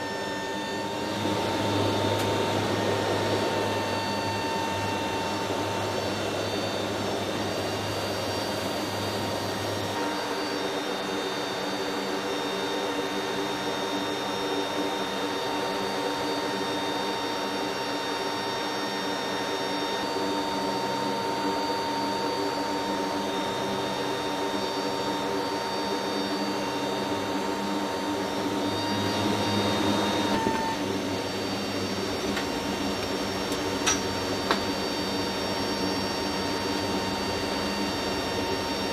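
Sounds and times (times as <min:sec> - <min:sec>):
aircraft turbine whine and hum: 0:00.0 - 0:38.9.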